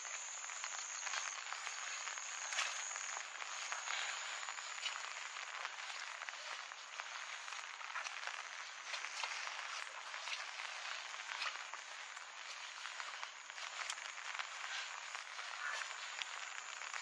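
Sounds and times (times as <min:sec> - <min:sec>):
rain on grass and water: 0:00.0 - 0:17.0.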